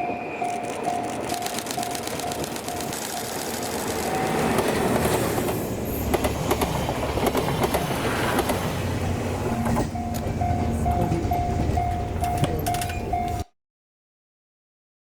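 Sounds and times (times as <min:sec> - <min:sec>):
train wheels clacking over rails: 0:00.4 - 0:13.4.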